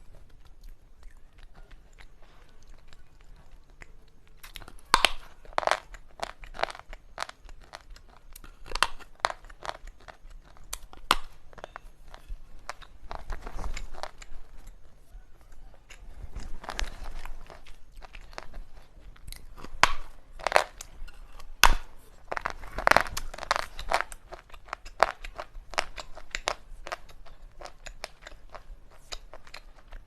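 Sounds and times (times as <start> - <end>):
grinding chewing: 0.0 - 30.0.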